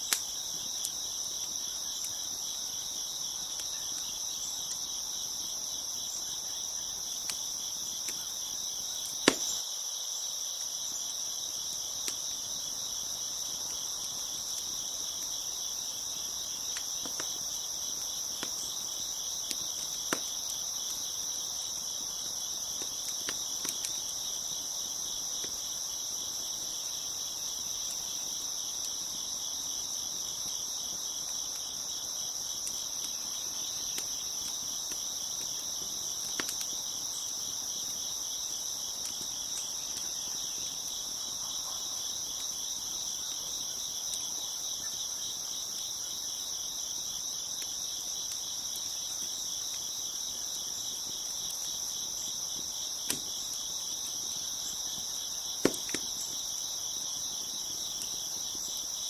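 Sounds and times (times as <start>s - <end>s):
wood fire popping and crackling: 0.0s - 41.4s, 42.1s - 58.9s
crickets chirping: 0.0s - 59.0s.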